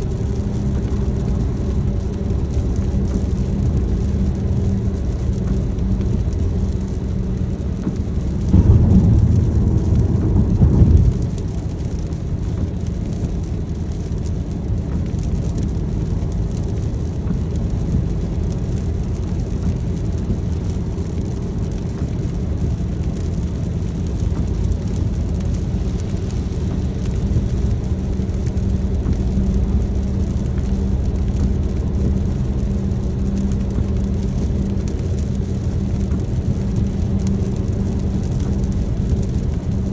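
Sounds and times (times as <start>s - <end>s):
car road and engine noise: 0.0s - 39.9s
low rumble: 0.0s - 39.9s
rain: 0.0s - 39.9s.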